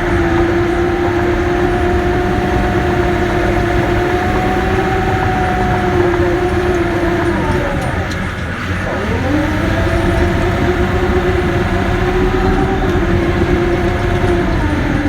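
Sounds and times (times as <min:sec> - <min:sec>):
bulldozer diesel engine revving: 0:00.0 - 0:15.0
heavy low rumble: 0:00.0 - 0:15.0.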